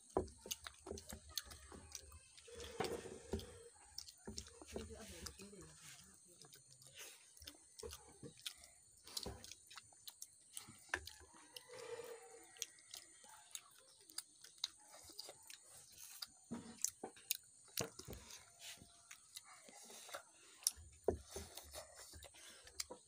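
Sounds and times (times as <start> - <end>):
child chewing food: 0.0 - 23.0.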